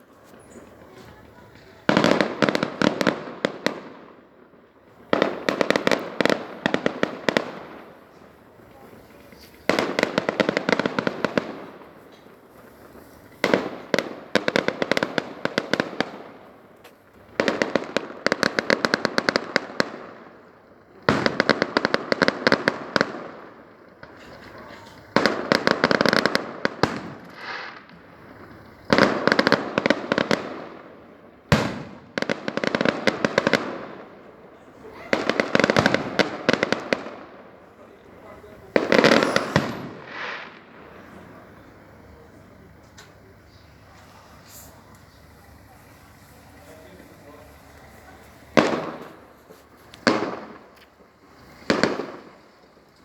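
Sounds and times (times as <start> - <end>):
fireworks crackling bangs: 0.0 - 53.0.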